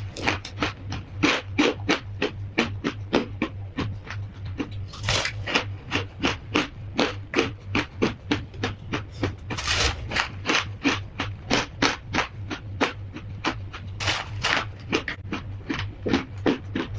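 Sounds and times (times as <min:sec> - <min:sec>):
frost being chewed crunching: 0:00.0 - 0:16.9.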